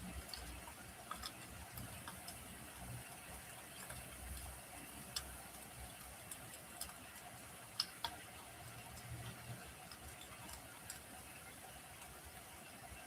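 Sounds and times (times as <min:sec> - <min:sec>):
faint steady hiss: 0:00.0 - 0:13.0
wood fire crackling and popping: 0:00.0 - 0:13.0.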